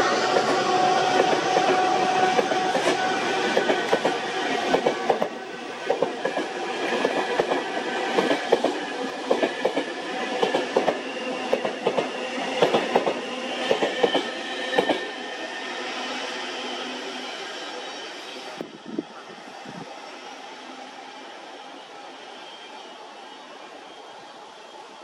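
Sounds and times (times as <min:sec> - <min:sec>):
train rumble: 0:00.0 - 0:20.6.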